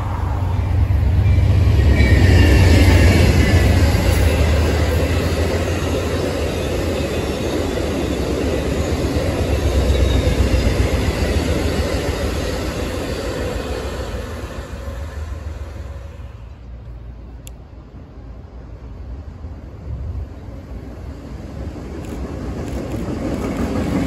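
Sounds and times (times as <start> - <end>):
train rolling past: 0.0 - 24.0.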